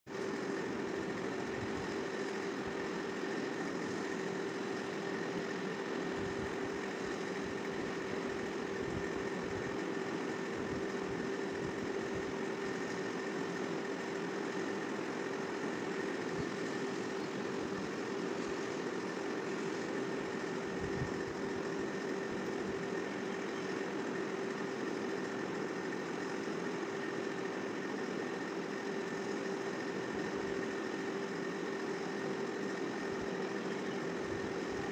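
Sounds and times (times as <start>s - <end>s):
mechanical hum: 0.1s - 34.9s.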